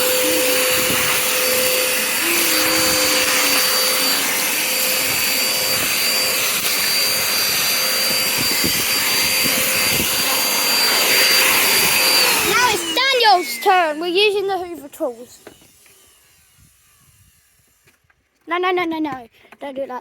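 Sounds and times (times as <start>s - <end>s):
vacuum cleaner motor whine: 0.0s - 18.1s.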